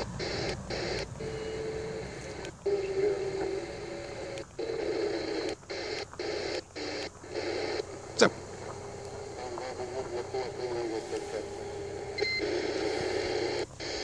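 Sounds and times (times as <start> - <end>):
radio static hiss: 0.0 - 14.0
short steady radio tones: 0.0 - 14.0.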